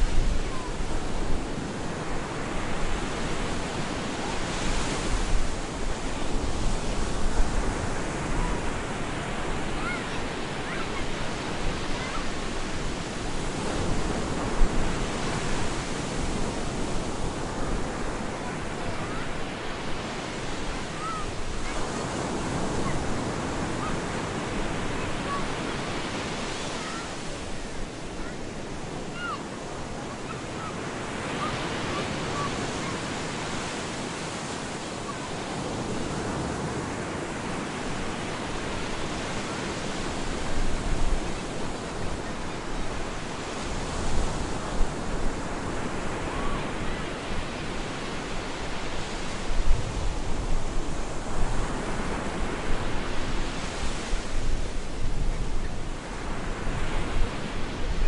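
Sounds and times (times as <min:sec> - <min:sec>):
sea surf breaking on beach: 0:00.0 - 0:58.0.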